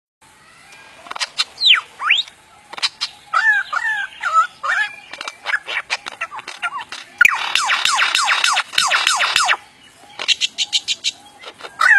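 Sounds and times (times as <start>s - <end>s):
lyrebird calling: 0.6s - 11.9s.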